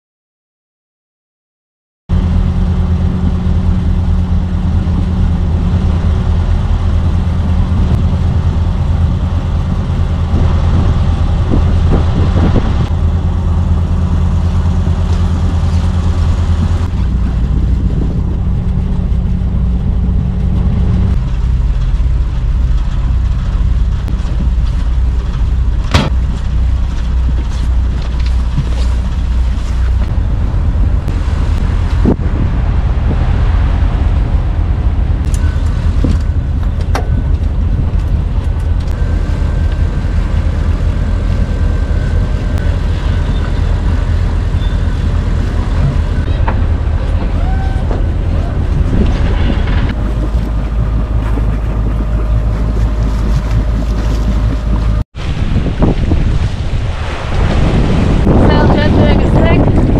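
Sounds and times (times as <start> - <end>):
boat engine running: 2.1 - 59.9.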